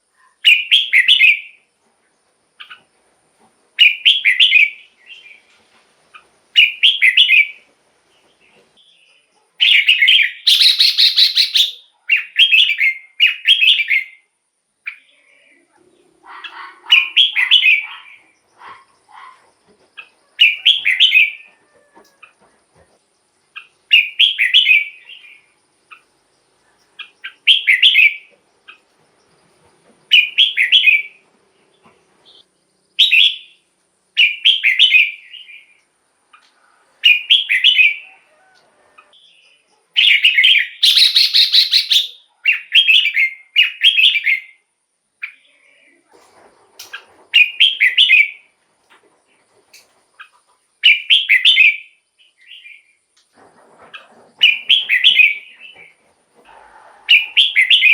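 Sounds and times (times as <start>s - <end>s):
bird singing bright phrases: 0.2s - 1.7s, 3.8s - 5.5s, 6.1s - 21.5s, 23.1s - 29.4s, 30.0s - 38.5s, 39.2s - 46.0s, 46.8s - 48.6s, 49.7s - 53.0s, 54.4s - 56.0s, 57.1s - 57.9s.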